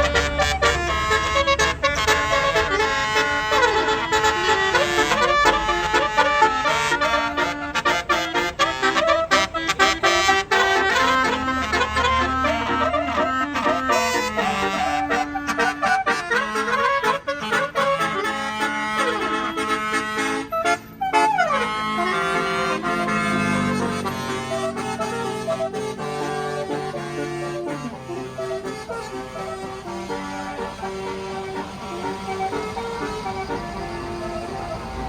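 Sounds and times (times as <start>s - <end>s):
bus horn playing a fast melody: 0.0s - 35.0s.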